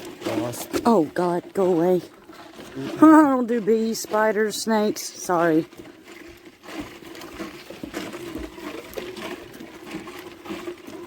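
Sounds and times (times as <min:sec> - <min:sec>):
rustles and clicks: 0:00.0 - 0:11.0.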